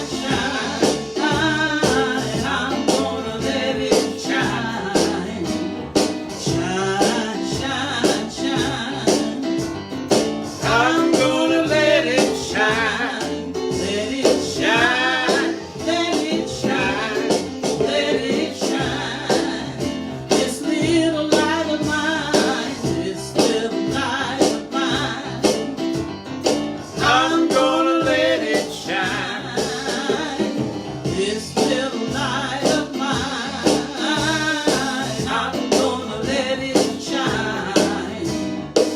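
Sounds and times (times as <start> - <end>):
gospel worship music: 0.0 - 38.9.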